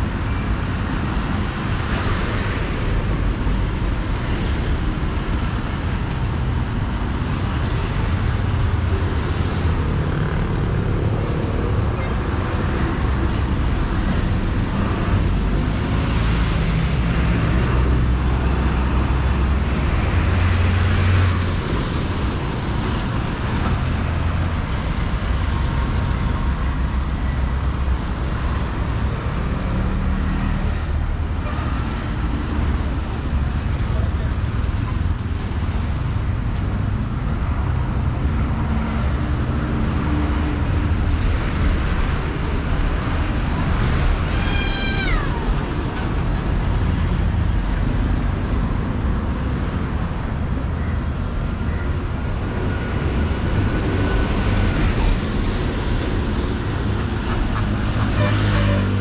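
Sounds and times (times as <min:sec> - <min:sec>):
car engines rumbling: 0:00.0 - 0:59.0
road noise: 0:00.0 - 0:59.0.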